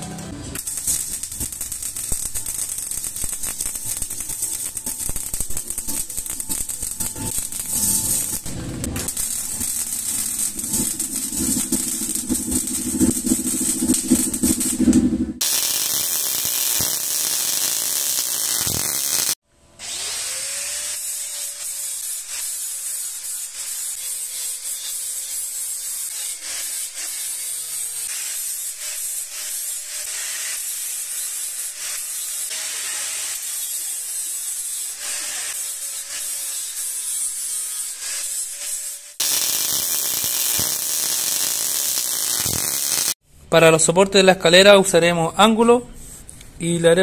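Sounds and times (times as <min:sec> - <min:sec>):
angle grinder polishing metal: 0:00.6 - 0:19.4, 0:20.3 - 0:43.2.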